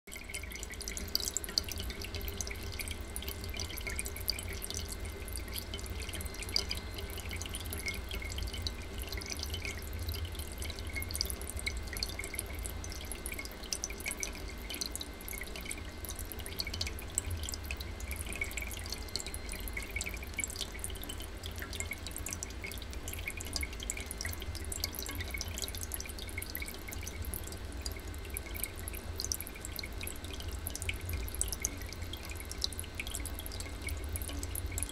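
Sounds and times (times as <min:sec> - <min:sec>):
water dripping into tin cans: 0:00.1 - 0:34.9.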